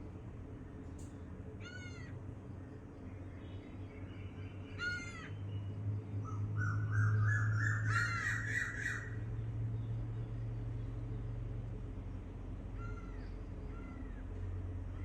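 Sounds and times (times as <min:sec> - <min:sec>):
steady low hum: 0:00.0 - 0:15.0
birds calling: 0:01.6 - 0:11.4, 0:12.2 - 0:15.0.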